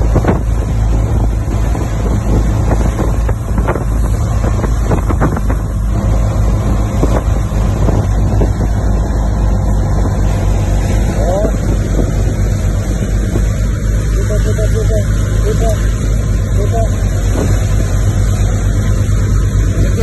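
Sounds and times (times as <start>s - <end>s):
motorboat engine rumble: 0.0s - 20.0s
wind buffeting microphone: 0.0s - 20.0s.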